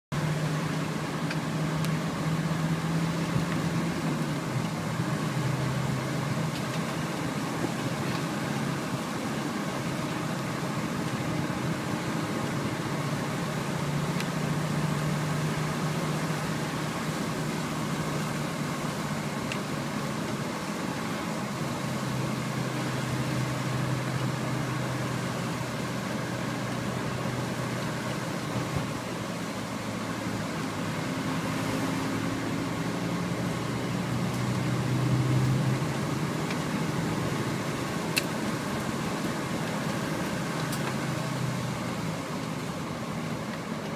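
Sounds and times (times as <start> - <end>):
car engine hum: 0.1 - 43.9
road noise inside car: 0.1 - 43.9.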